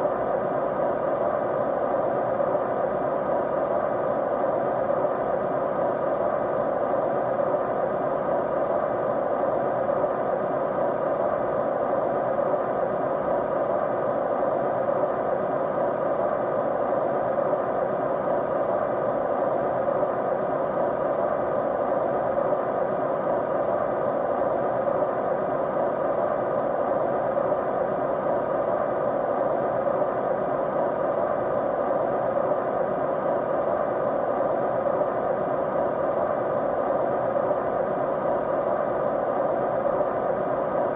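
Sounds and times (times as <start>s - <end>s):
faint steady tones: 0.0s - 40.9s.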